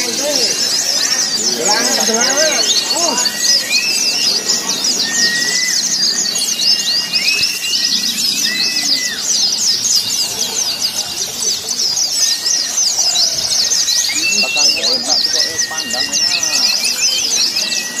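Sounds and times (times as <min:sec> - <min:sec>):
songbirds twittering: 0:00.0 - 0:18.0
whistled bird notes: 0:00.0 - 0:18.0.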